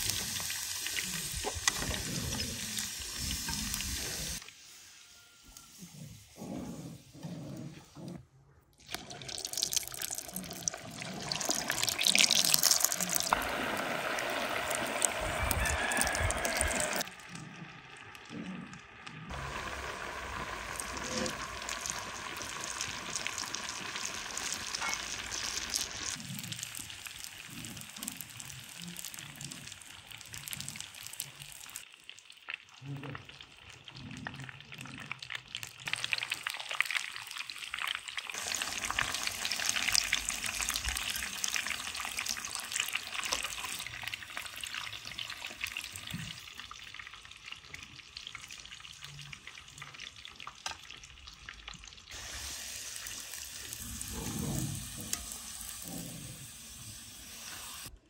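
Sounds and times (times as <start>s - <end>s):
food deep-frying in oil: 0.0s - 5.7s, 8.8s - 58.0s.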